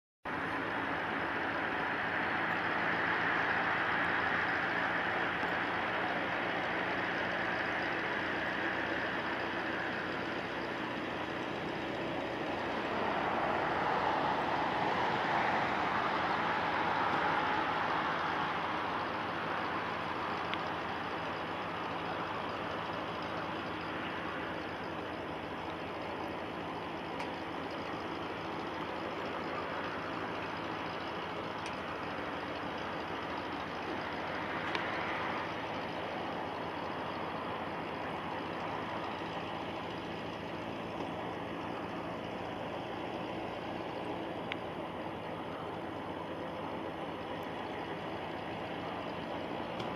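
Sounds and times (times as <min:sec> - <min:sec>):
jet engines at take-off power: 0:00.3 - 0:49.9.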